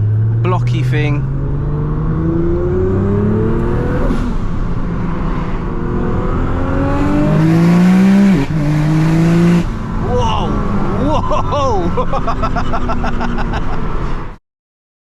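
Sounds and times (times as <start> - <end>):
car engine accelerating hard: 0.0 - 14.3.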